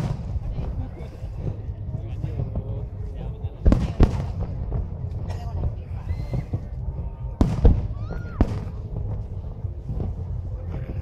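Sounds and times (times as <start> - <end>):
continuous low rumble: 0.0 - 11.0.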